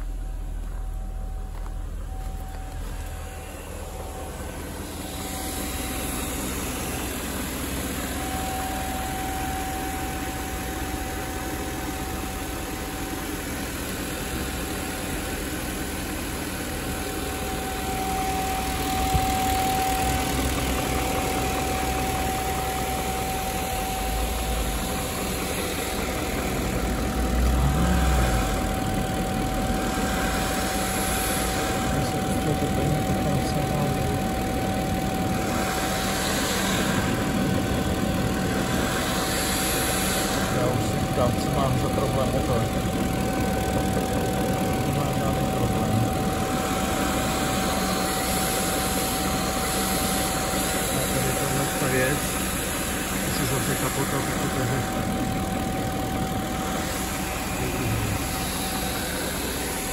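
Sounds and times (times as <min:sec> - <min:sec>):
car engine idling: 0:00.0 - 0:59.9
thin whine: 0:00.0 - 0:59.9.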